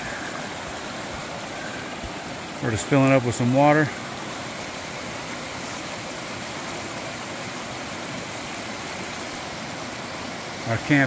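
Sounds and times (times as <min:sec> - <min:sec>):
mountain river flowing: 0:00.0 - 0:11.0.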